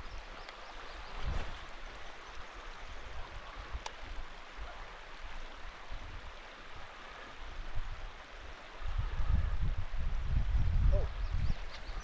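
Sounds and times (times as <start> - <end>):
river water flowing: 0.0 - 10.6, 11.2 - 12.0.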